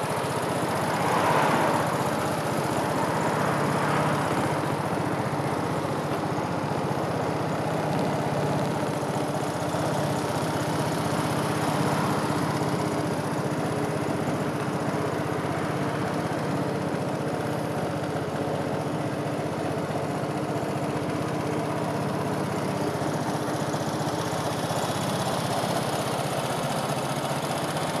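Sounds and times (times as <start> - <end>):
scooter engine idling: 0.0 - 28.0.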